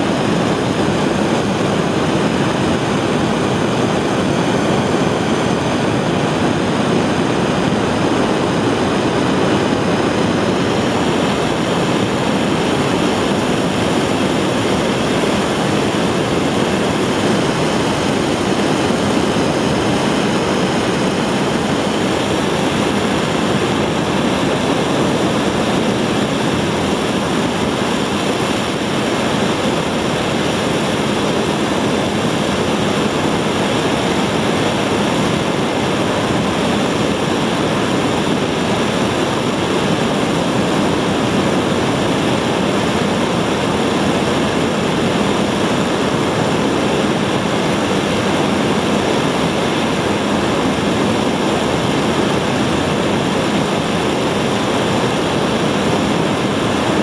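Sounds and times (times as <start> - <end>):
rocket engine rushing roar: 0.0 - 57.0.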